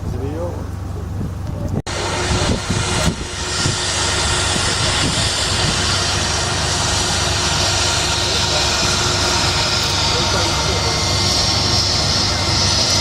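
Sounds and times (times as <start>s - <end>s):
jet engines at high power: 0.1s - 13.0s.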